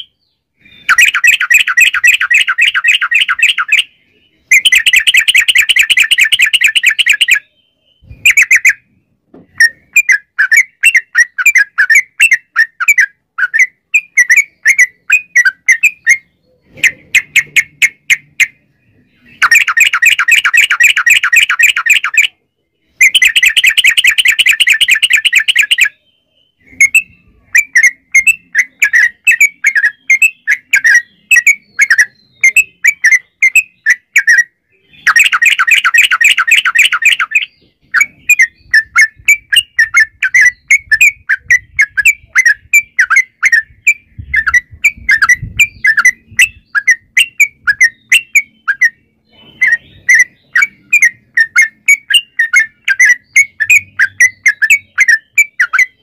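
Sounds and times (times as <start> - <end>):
bird chirps: 0.0 - 56.0
bird trilling: 0.0 - 56.0.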